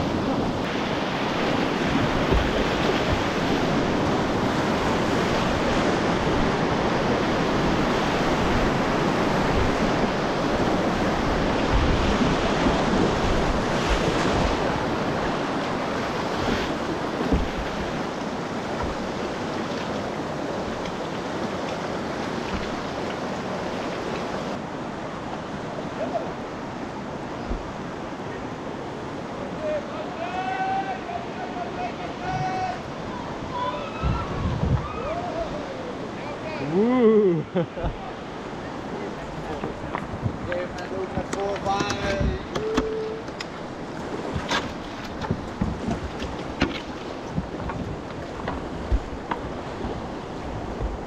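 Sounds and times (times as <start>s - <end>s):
whitewater rushing: 0.0s - 51.0s.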